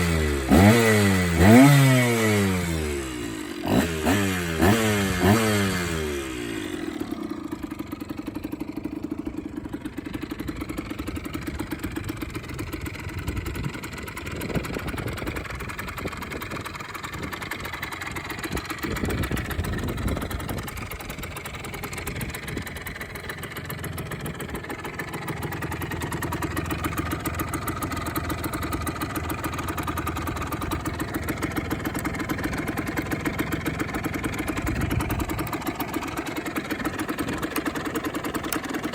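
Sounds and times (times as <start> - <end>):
two-stroke engine idling and revving: 0.0 - 38.9.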